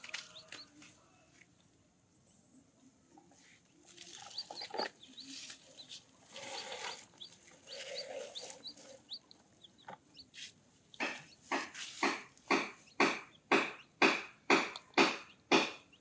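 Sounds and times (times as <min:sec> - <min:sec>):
chicks peeping: 0:00.0 - 0:00.9, 0:03.6 - 0:16.0.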